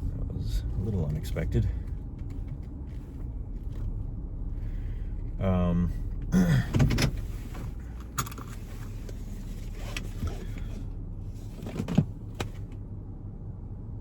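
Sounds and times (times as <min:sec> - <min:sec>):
car cabin rumble: 0:00.0 - 0:13.1.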